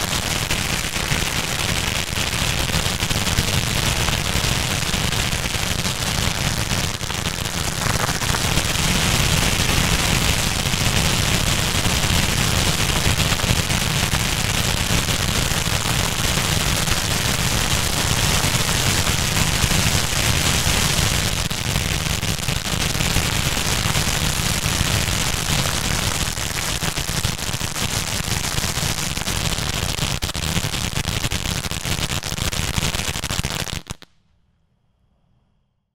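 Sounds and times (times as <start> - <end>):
fountain firework hissing and crackling: 0.0 - 34.0.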